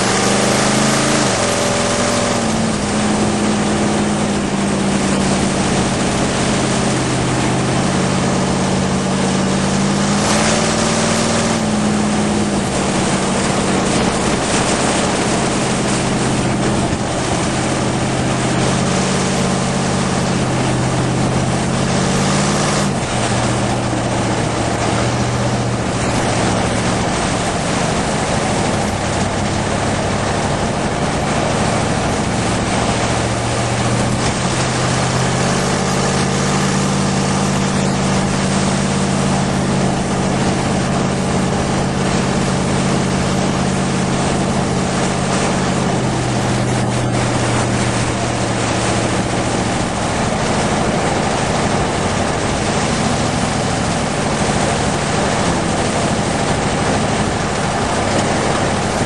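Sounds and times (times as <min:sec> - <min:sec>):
car engine cruising: 0:00.0 - 0:59.0
wind noise: 0:00.0 - 0:59.0.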